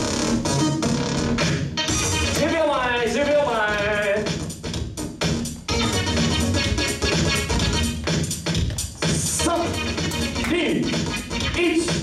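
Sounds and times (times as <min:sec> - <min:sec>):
dance music over sound system: 0:00.0 - 0:12.0.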